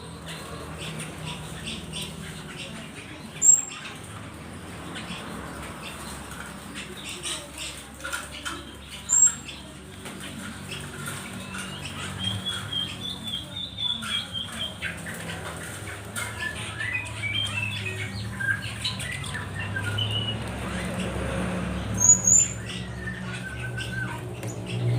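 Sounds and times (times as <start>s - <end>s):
small birds chirping and squawking: 0.0s - 24.9s.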